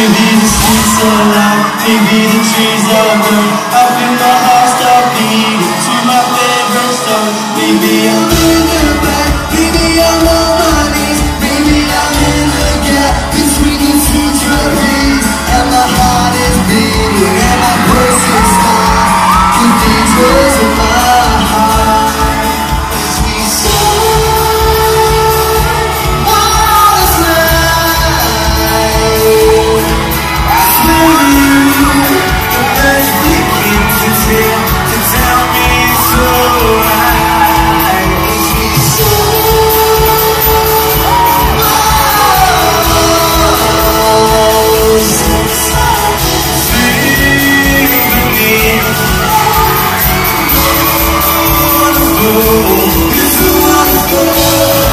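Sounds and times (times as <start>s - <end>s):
audience shouting: 0.0s - 13.0s, 13.6s - 54.9s
backing track with steady beat: 0.0s - 54.9s
crowd screaming and cheering: 0.0s - 54.9s
male group singing pop: 0.0s - 54.9s.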